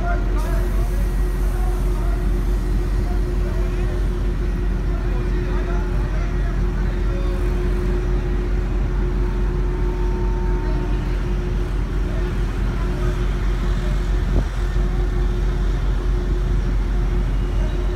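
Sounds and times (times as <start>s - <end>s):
ship machinery droning: 0.0s - 17.9s.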